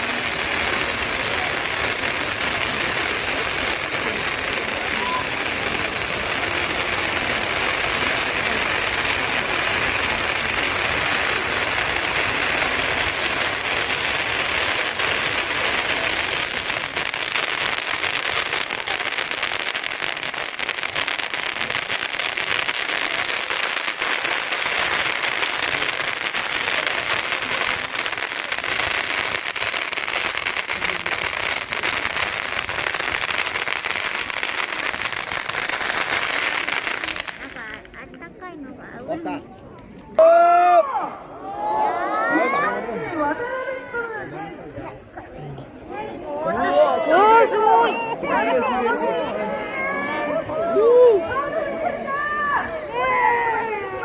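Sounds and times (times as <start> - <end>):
fireworks spraying sparks: 0.0 - 38.8, 46.9 - 54.0.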